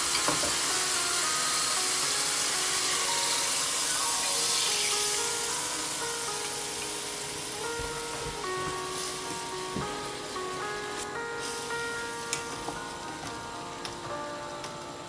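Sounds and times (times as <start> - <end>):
background music with held notes: 0.0 - 15.0
marinade sizzling in hot pan: 0.0 - 15.0.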